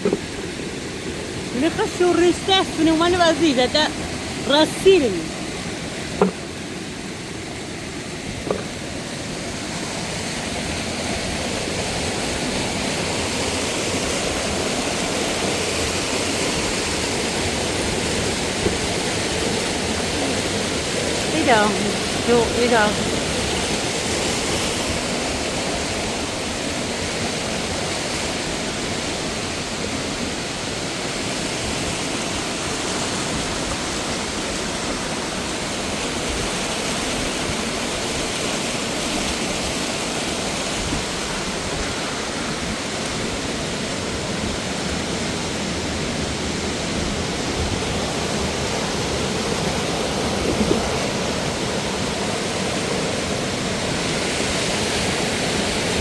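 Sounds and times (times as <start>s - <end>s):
cascading mountain water rushing: 0.0s - 56.0s.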